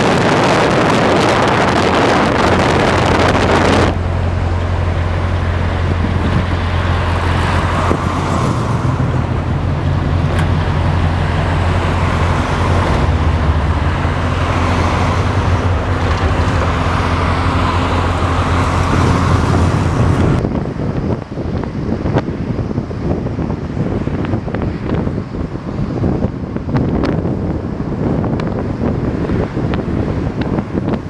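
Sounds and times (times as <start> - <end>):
vehicle engine running: 0.0 - 31.0
wind rushing over microphone: 0.0 - 31.0.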